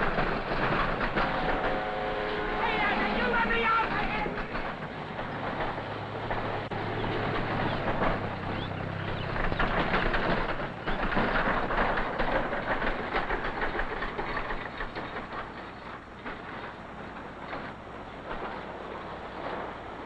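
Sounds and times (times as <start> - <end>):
tractor engine humming: 0.0 - 20.0
wagon clattering and rattling: 0.0 - 20.0.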